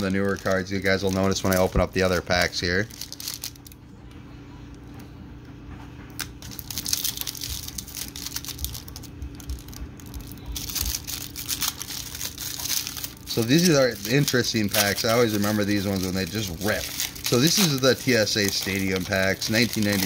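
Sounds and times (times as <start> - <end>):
foil pack tearing: 0.0 - 3.8, 6.2 - 20.0
foil wrapper crinkling: 0.0 - 3.8, 6.2 - 20.0.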